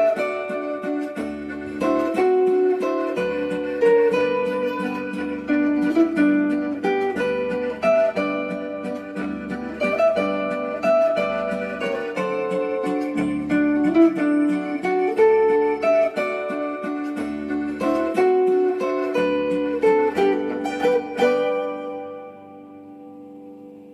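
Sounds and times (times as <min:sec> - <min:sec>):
zither plucked melody: 0:00.0 - 0:23.9.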